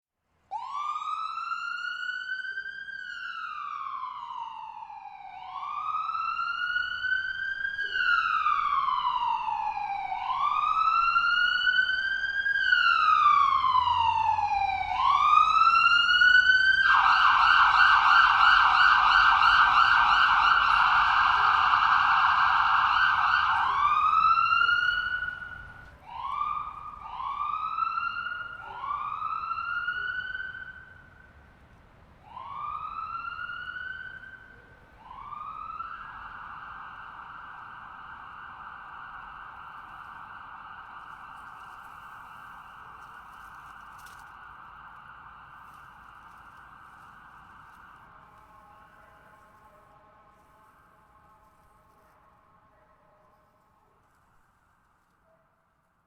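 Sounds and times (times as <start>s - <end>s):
ambulance siren wailing and yelping: 0.5s - 31.3s, 32.2s - 49.8s.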